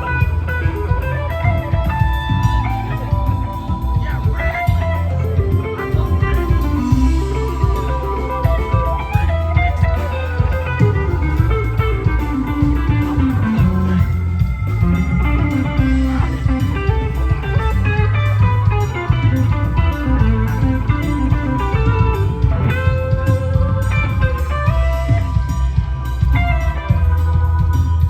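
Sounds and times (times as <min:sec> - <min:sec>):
bass guitar: 0:00.0 - 0:28.0
drums with steady beat: 0:00.0 - 0:28.0
electric guitar lines: 0:00.0 - 0:28.0.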